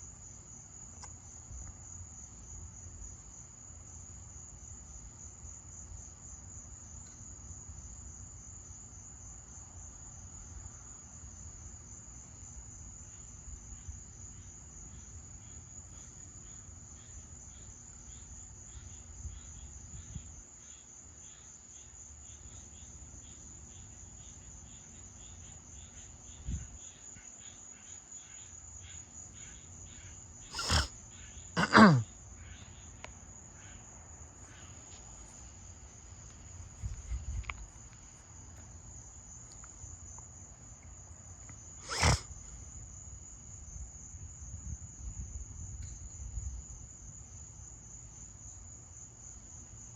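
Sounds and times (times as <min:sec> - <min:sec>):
crickets trilling: 0:00.0 - 0:49.9.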